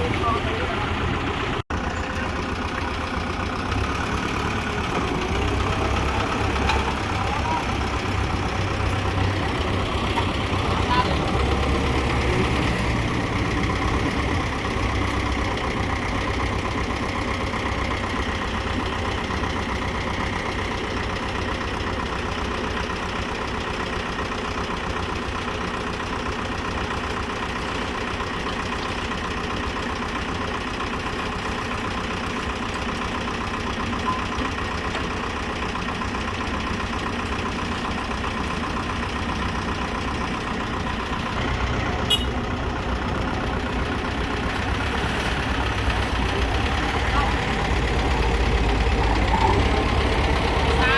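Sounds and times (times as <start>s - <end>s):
tractor diesel engine idling: 0.0s - 50.9s.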